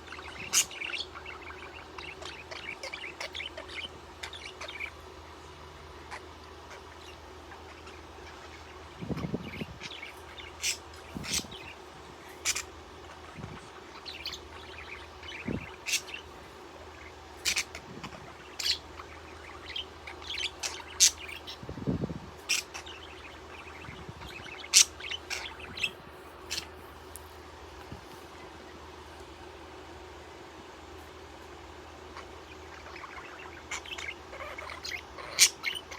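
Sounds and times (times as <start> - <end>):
budgie chirping: 0.0 - 27.0, 32.0 - 35.9.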